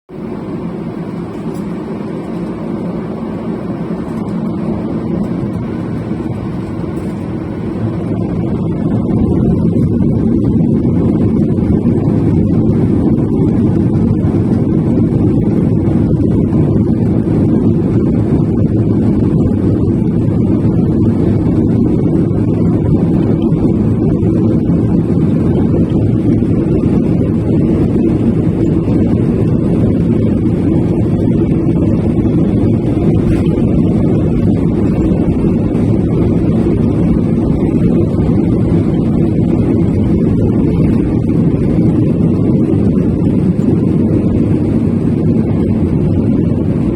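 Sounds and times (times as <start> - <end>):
airliner engines rumbling: 0.1 - 46.9.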